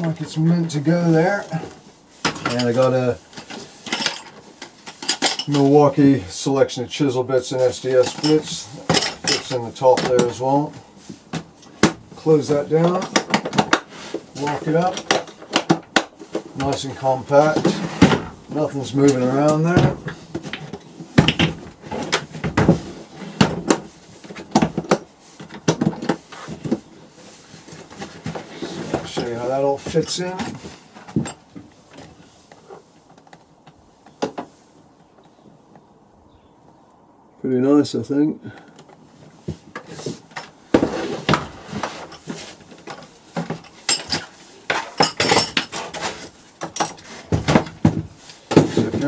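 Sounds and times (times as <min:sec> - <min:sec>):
hard plastic tool box clattering: 0:00.0 - 0:05.7, 0:07.7 - 0:33.4, 0:38.6 - 0:49.0.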